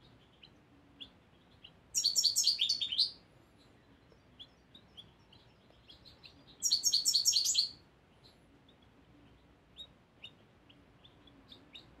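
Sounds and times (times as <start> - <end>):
goldfinch singing: 0.0 - 12.0.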